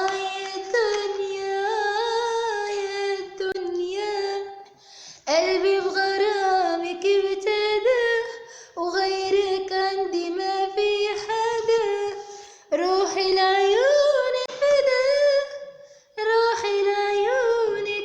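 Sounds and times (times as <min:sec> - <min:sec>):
woman singing unaccompanied: 0:00.0 - 0:15.6, 0:16.2 - 0:18.0.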